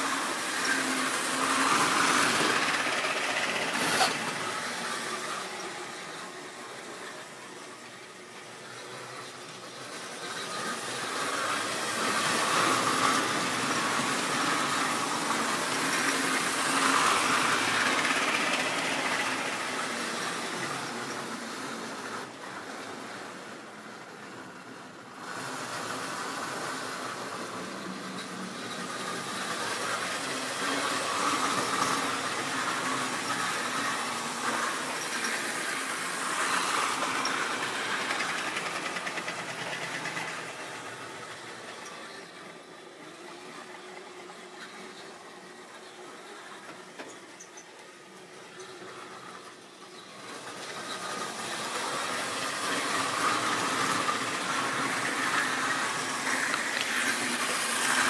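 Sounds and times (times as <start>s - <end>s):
model train motors whirring: 0.0s - 58.0s
wheels rattling on track: 0.0s - 58.0s.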